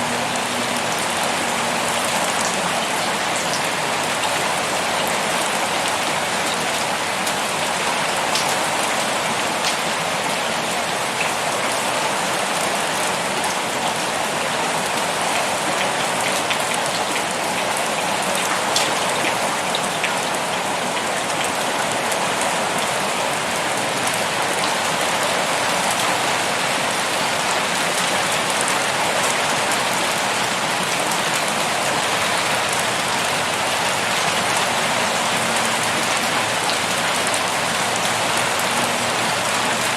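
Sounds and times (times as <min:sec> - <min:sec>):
pouring rain: 0:00.0 - 0:39.9.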